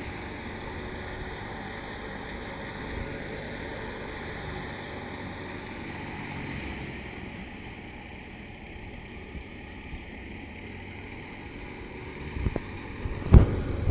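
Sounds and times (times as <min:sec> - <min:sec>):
thresher mechanical drone: 0:00.0 - 0:13.9.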